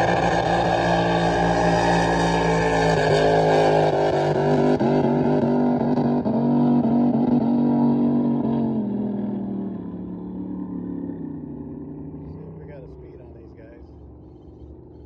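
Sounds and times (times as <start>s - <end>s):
drag boat engine at full throttle: 0.0s - 15.0s.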